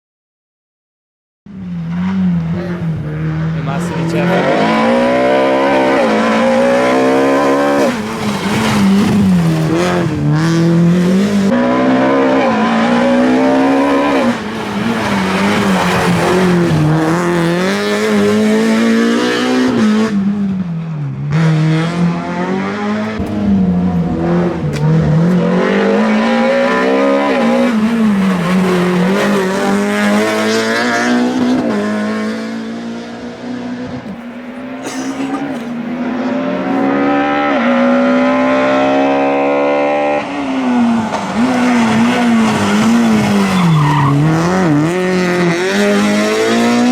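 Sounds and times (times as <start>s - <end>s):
rally car engine revving: 1.5s - 46.9s.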